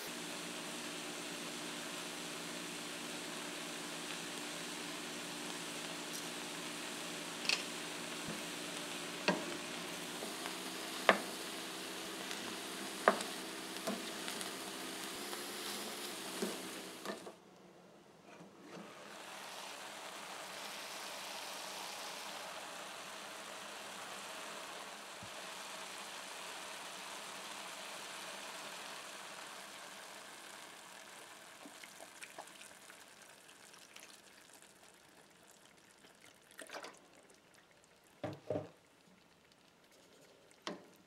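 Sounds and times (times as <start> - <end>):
vegetables sizzling in a pot: 0.0 - 17.4, 18.8 - 35.7.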